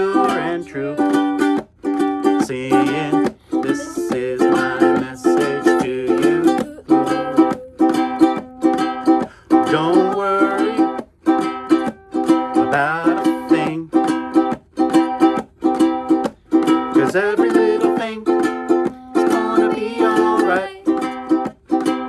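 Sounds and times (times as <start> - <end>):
strummed string instrument chords: 0.0 - 22.0.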